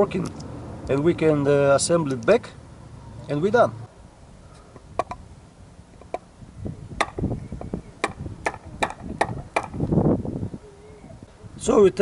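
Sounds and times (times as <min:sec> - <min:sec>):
rustle: 0:00.0 - 0:12.0.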